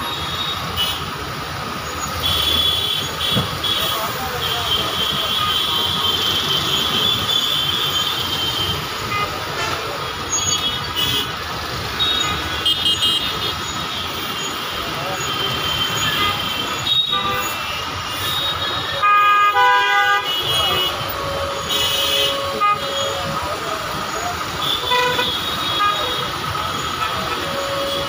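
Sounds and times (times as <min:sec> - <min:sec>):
vehicle horns: 0:00.0 - 0:01.2, 0:02.1 - 0:28.0.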